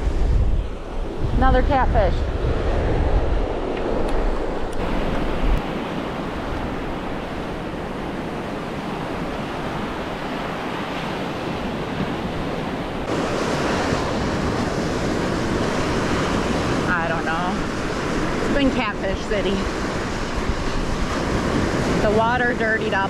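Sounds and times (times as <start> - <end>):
ocean waves breaking on beach: 0.0 - 23.0
wind on microphone: 0.0 - 23.0.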